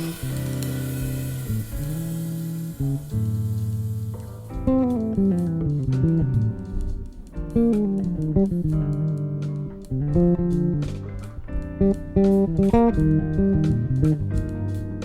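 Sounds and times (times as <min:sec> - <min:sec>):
light cymbal ticks: 0:00.0 - 0:14.8
electric bass: 0:00.0 - 0:15.0
guitar melodic runs: 0:00.0 - 0:15.0.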